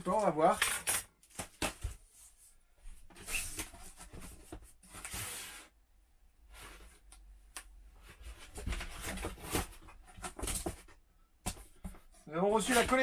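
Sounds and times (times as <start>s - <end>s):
clothing and packaging rustling: 0.0s - 5.8s, 6.4s - 13.0s.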